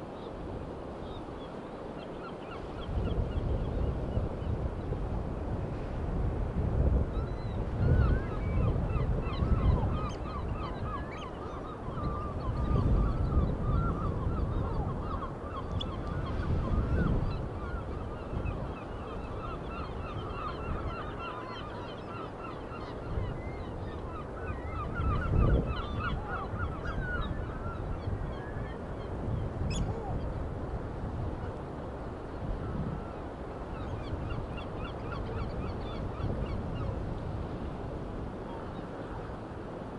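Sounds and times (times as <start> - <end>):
wind and surf rushing: 0.0 - 39.9.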